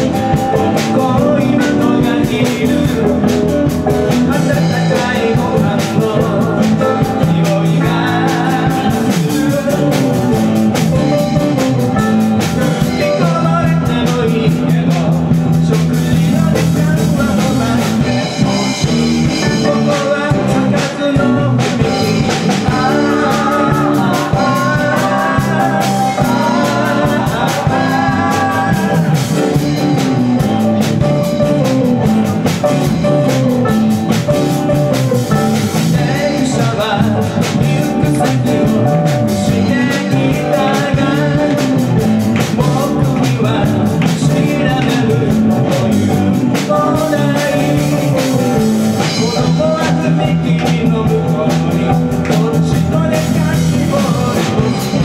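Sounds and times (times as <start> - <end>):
drum kit: 0.0 - 55.0
electric and acoustic guitars: 0.0 - 55.0
electric bass: 0.0 - 55.0
man singing: 0.0 - 55.0.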